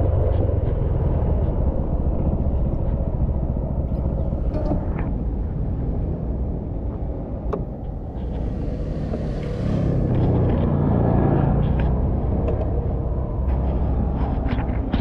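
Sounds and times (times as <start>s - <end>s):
road rumble: 0.0s - 15.0s
wind noise: 0.0s - 15.0s.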